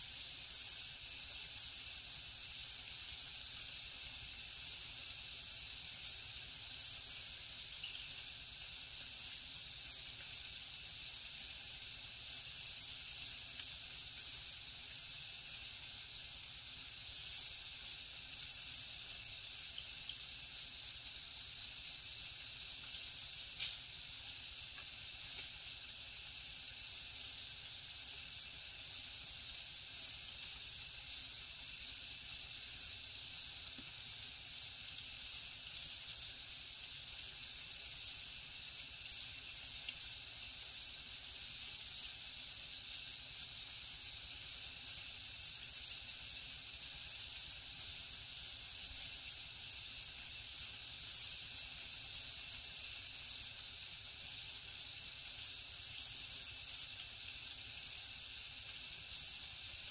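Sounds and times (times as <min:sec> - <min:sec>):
crickets and insects trilling: 0:00.0 - 0:59.9
loud cricket chirping: 0:00.0 - 0:59.9.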